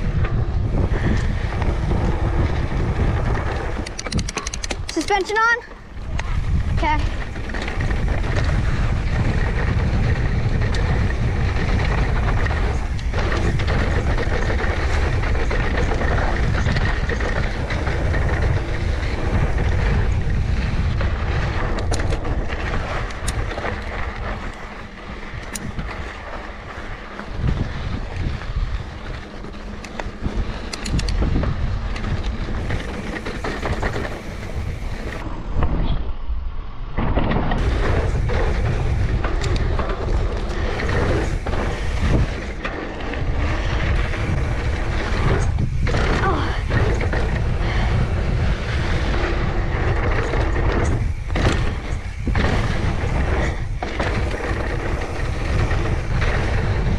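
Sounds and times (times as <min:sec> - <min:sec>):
bike chain and frame rattling: 0:00.0 - 0:35.2, 0:37.6 - 0:56.9
tyres on dirt: 0:00.0 - 0:35.8, 0:37.0 - 0:56.9
wind on microphone: 0:00.0 - 0:56.9.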